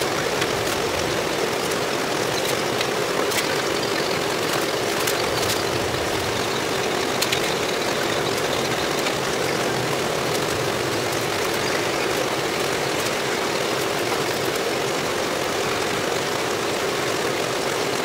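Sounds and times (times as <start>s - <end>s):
vinyl film crinkling: 0.0s - 14.6s
fan humming: 0.0s - 17.0s.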